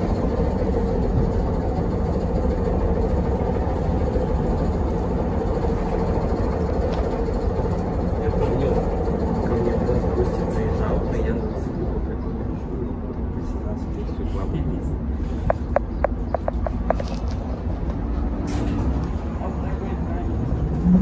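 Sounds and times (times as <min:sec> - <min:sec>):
low rumble of moving vehicle: 0:00.0 - 0:21.0.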